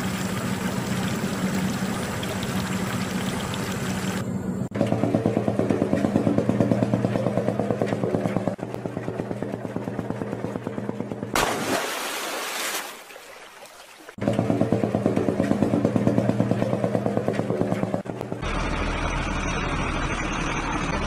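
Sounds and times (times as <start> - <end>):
heavy truck engine throbbing: 0.0 - 11.4, 14.2 - 21.0.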